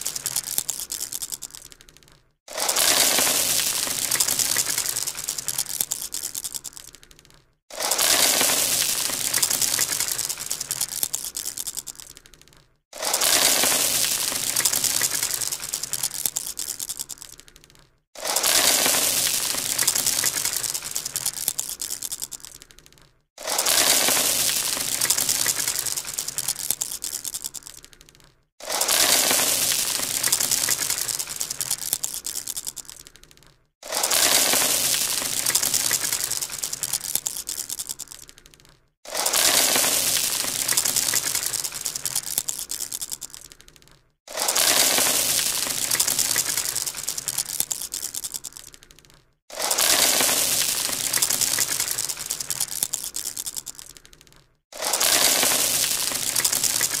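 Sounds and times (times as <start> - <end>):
marbles clattering: 0.0 - 57.0.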